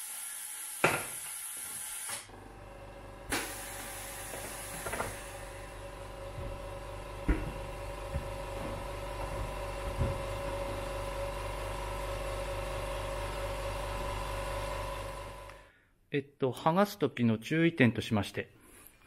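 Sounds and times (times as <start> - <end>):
electric motor humming: 0.0 - 15.7.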